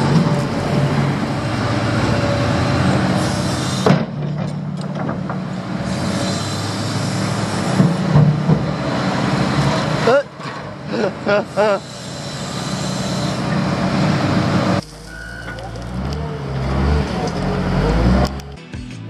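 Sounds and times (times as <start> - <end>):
construction machinery diesel engines: 0.0 - 18.7.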